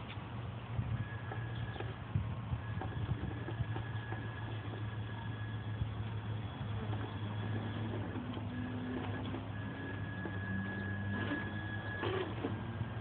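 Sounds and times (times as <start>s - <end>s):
steady low hum: 0.0s - 13.0s
electric motor whirring: 0.9s - 13.0s.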